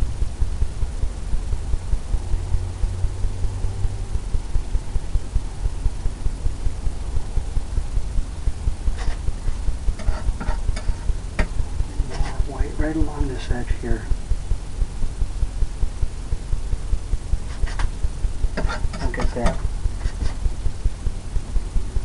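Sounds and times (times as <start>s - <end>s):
low pulsing hum: 0.0s - 22.0s.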